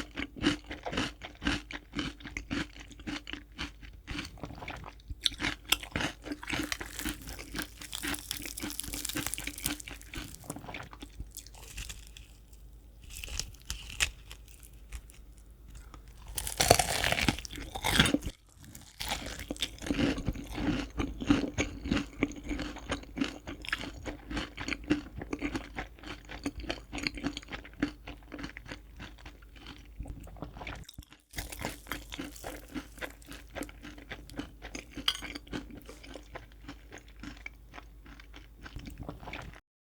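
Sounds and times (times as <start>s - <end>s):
crunching and chewing fried chicken: 0.0s - 39.6s.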